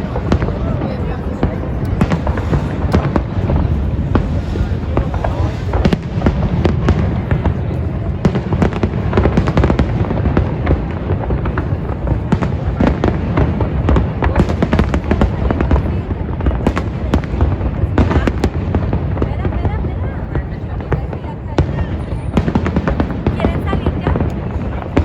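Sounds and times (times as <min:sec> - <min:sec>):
fireworks booms and crackling: 0:00.0 - 0:25.0.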